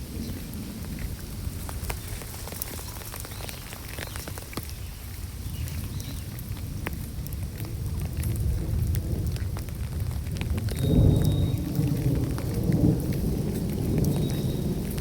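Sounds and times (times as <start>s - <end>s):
constant low rumble: 0.0s - 15.0s
rain falling steadily: 0.0s - 15.0s
raindrops ticking close by: 0.0s - 15.0s.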